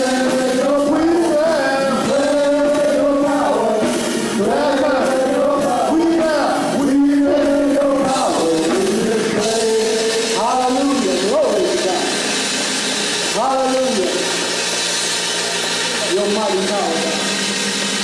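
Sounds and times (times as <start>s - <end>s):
worship music: 0.0s - 18.0s.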